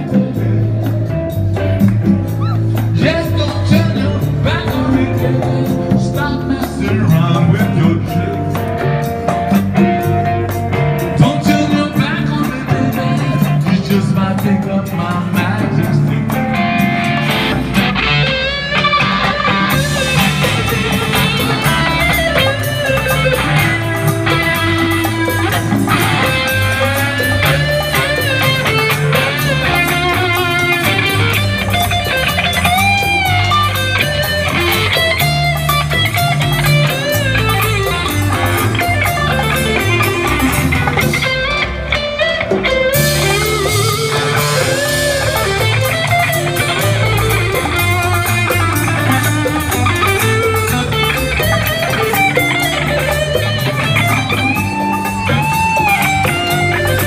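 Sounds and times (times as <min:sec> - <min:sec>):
bass guitar: 0:00.0 - 0:57.0
congas: 0:00.0 - 0:57.0
electric guitar lead line: 0:00.0 - 0:57.0.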